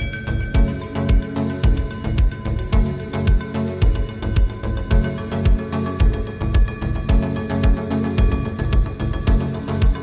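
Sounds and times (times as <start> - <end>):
music with low thumping beat: 0.0 - 10.0.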